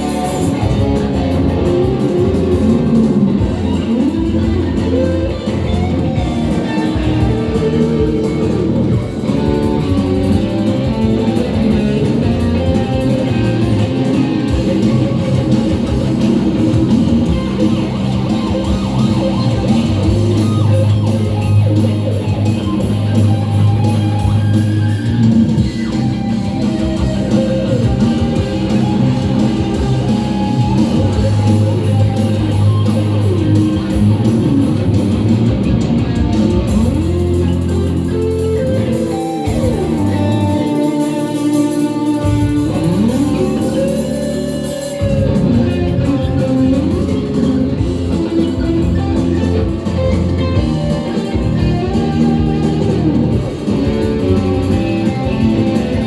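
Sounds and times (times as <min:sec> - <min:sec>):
bass guitar: 0:00.0 - 0:56.0
lead guitar: 0:00.0 - 0:56.0.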